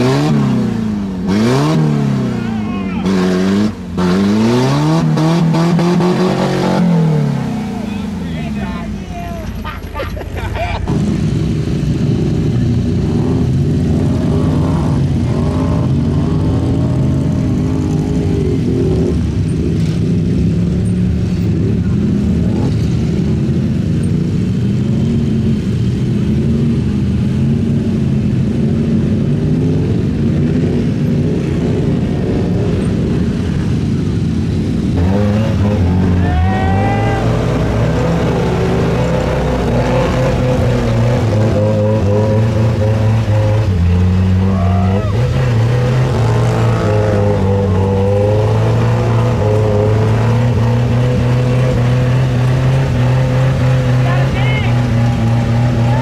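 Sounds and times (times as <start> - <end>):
engine revving: 0.0 - 9.7, 10.8 - 56.0
tires spinning through mud: 0.0 - 56.0
truck engines running: 0.0 - 56.0.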